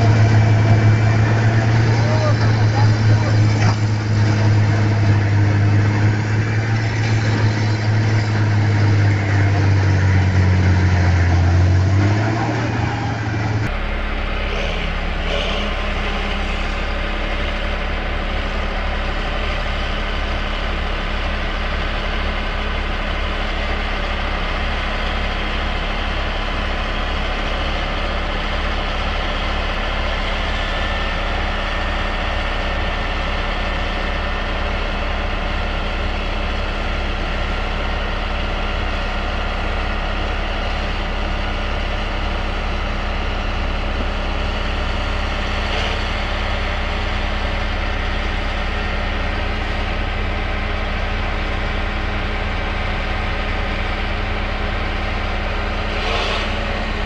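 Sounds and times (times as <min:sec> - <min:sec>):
excavator engine humming: 0:00.0 - 0:57.0
tractor engine drone pulsing: 0:00.0 - 0:57.0.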